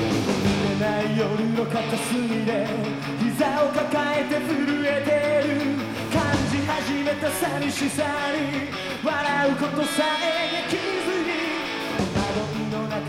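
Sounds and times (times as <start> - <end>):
electric guitar: 0.0 - 13.0
rock band playing live: 0.0 - 13.0
person singing: 0.4 - 13.0.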